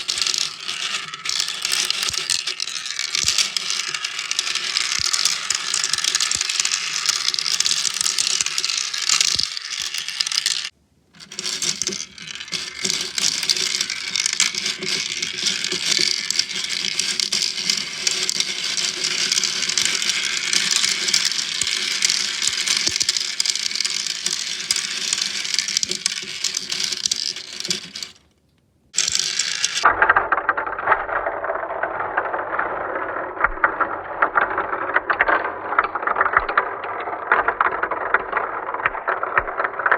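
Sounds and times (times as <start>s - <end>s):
balls rattling through marble run: 0.0s - 39.9s.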